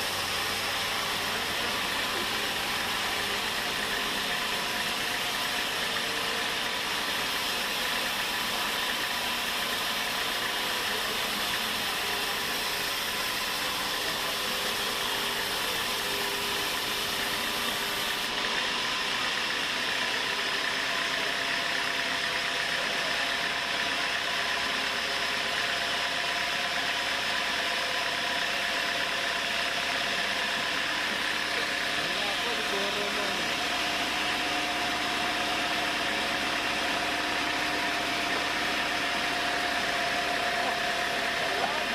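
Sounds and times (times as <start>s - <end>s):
sawmill machinery humming: 0.0s - 41.9s.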